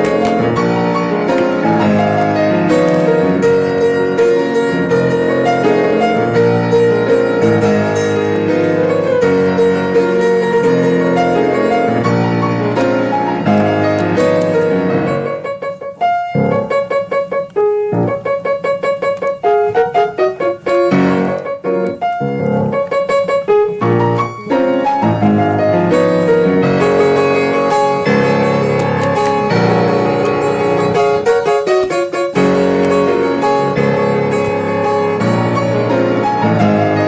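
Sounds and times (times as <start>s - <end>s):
piano chords and notes: 0.0s - 37.0s.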